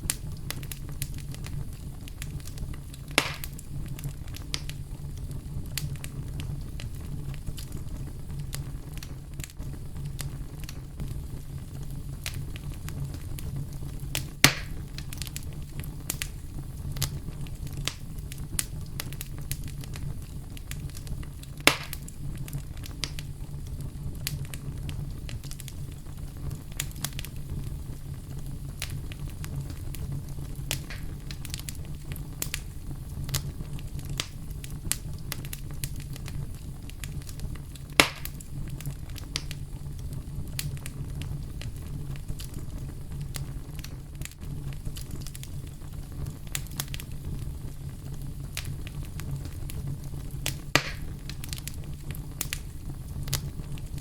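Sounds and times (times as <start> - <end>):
campfire crackling: 0.0 - 54.0
fire pops: 0.0 - 54.0.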